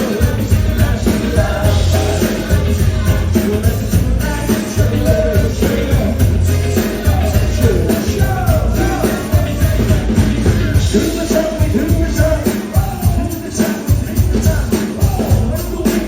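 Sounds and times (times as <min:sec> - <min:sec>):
drum beat: 0:00.0 - 0:16.0
live band playing pop-rock: 0:00.0 - 0:16.0
person singing: 0:00.0 - 0:16.0.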